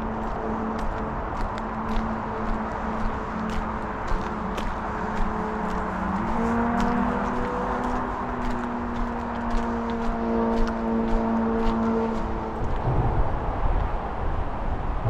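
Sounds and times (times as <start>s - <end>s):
footsteps on paved path: 0.0s - 12.9s
vehicles humming on road: 0.0s - 15.0s.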